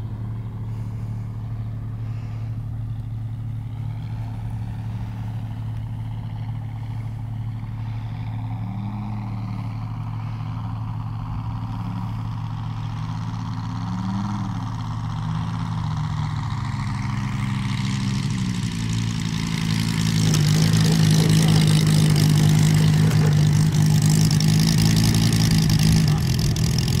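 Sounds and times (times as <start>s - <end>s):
model plane engine running: 0.0s - 27.0s
propeller whir: 0.0s - 27.0s.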